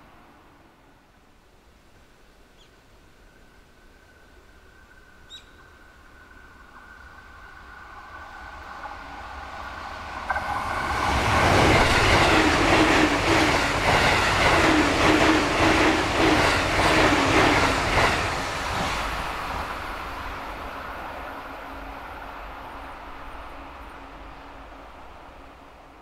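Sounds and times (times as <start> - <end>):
passenger train passing: 4.4 - 26.0.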